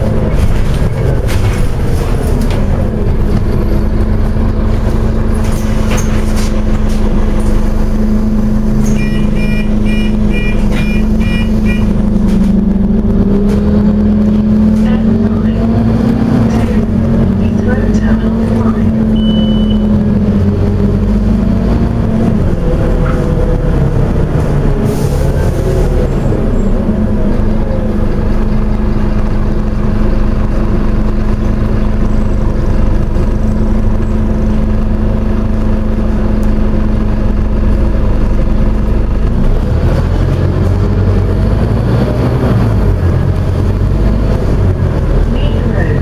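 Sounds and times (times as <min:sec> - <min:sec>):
bus engine drone: 0:00.0 - 0:46.0.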